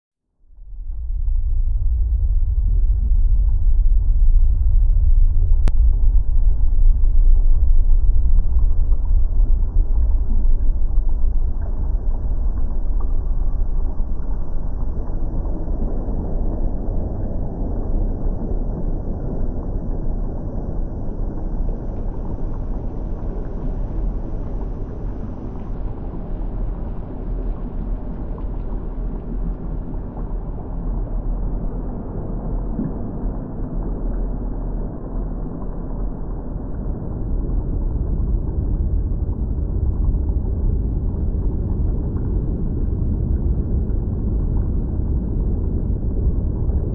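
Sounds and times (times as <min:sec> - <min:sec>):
bubbling lava deep rumble: 0:00.4 - 0:46.9.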